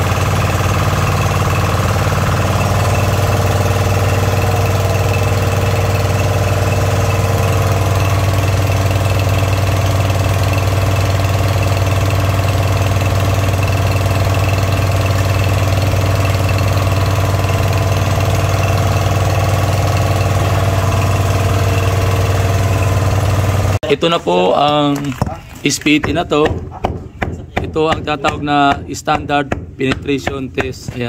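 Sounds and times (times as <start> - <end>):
water pump engine running: 0.0 - 23.9, 27.6 - 31.0.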